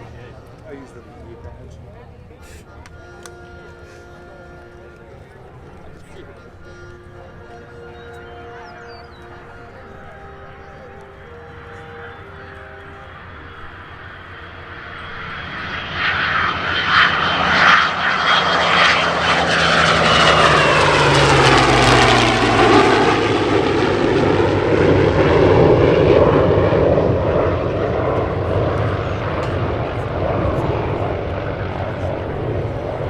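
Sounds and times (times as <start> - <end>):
propeller airplane flying past: 0.0 - 33.0.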